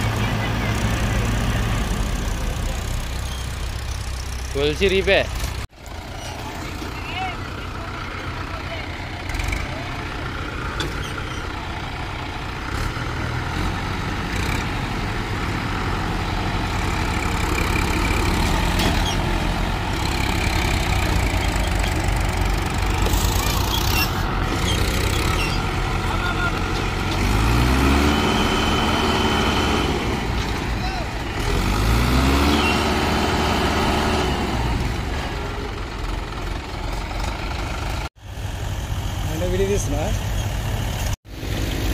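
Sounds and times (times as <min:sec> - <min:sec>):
tractor engine straining: 0:00.0 - 0:41.9.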